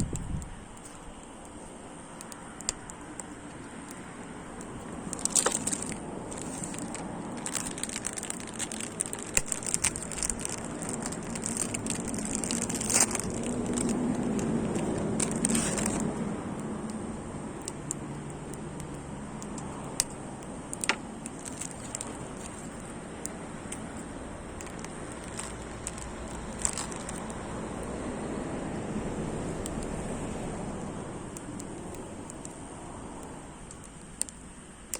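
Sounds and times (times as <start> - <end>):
steady background hiss: 0.0 - 34.9
wood fire crackling: 0.0 - 34.9.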